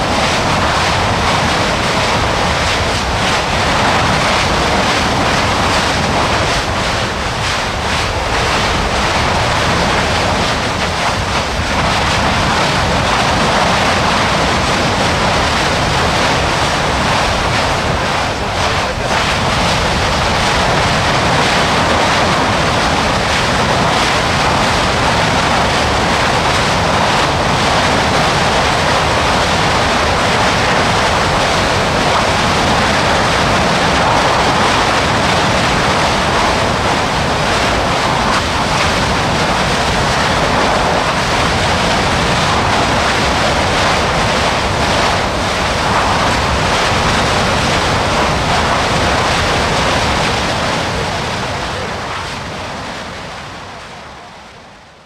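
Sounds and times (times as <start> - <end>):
lava fountaining and spattering: 0.0 - 52.9.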